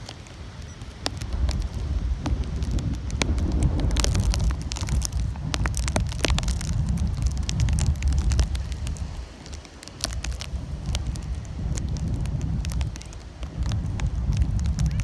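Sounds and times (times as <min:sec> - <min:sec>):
sharp crackles and ticks: 0:00.0 - 0:15.0
wind buffeting microphone: 0:00.0 - 0:15.0.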